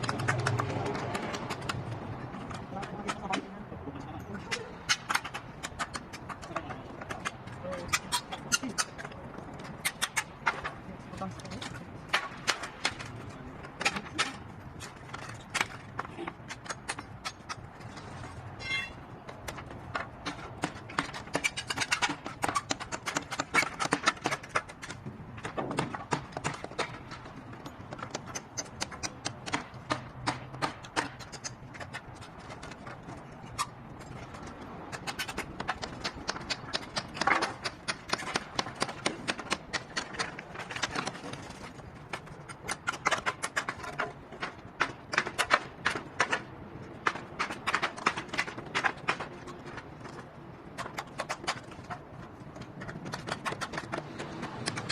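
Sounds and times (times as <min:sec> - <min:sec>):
sharp irregular knocks and clicks: 0:00.0 - 0:03.6, 0:04.8 - 0:10.8, 0:11.4 - 0:18.1, 0:19.2 - 0:54.9.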